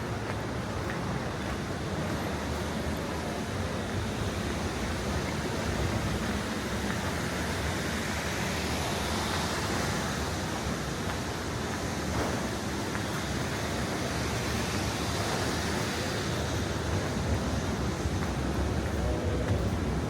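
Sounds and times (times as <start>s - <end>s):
airport ambient rush: 0.0s - 20.0s.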